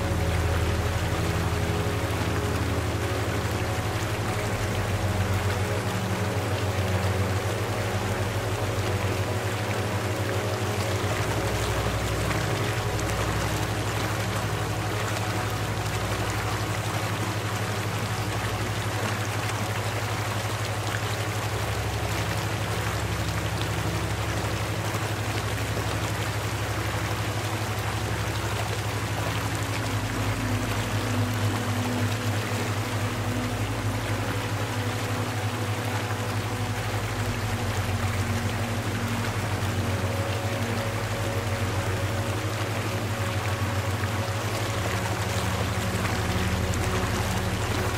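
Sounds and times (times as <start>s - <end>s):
low droning hum: 0.0s - 47.9s
rushing water: 0.0s - 47.9s.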